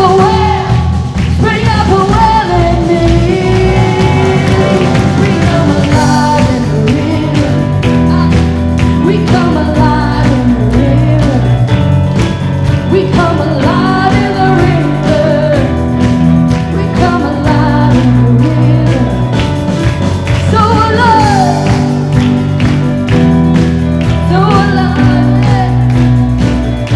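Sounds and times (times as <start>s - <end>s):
person singing: 0.0s - 11.9s, 12.8s - 19.6s, 20.3s - 22.3s, 24.1s - 26.9s
rock band playing worship song: 0.0s - 26.9s.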